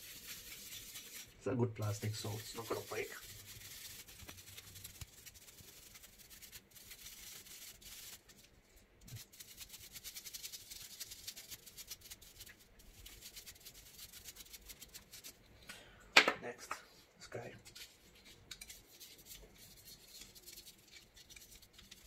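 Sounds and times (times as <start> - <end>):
brush scrubbing plastic: 0.0 - 15.6, 17.6 - 22.0.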